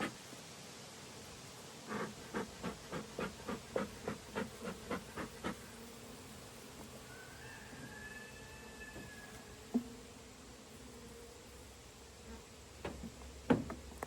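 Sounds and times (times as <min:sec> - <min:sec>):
honeybee buzzing: 0:01.1 - 0:14.0.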